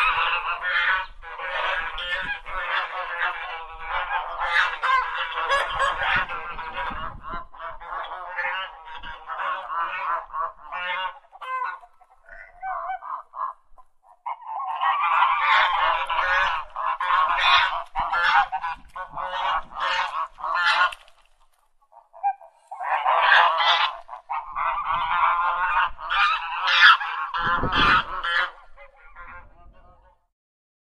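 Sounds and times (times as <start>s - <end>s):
geese honking: 0.0s - 21.2s, 21.9s - 30.2s.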